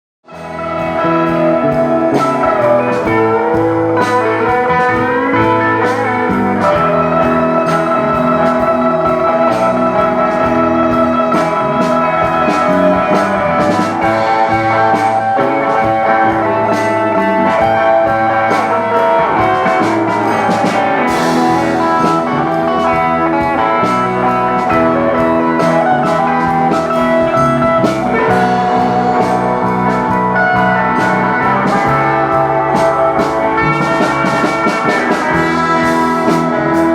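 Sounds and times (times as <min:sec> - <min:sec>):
bass guitar: 0:00.2 - 0:36.9
drum kit steady beat: 0:00.3 - 0:36.9
lead guitar bending notes: 0:00.3 - 0:36.9.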